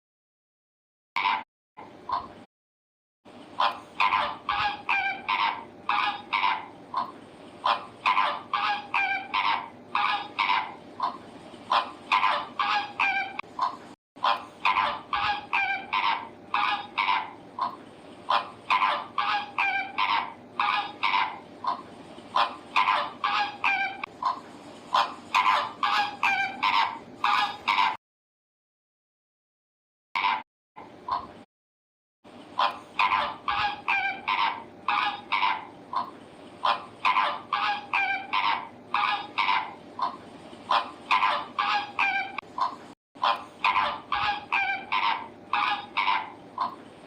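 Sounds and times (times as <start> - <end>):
birds calling: 3.3 - 28.0, 30.2 - 31.4, 32.3 - 47.0.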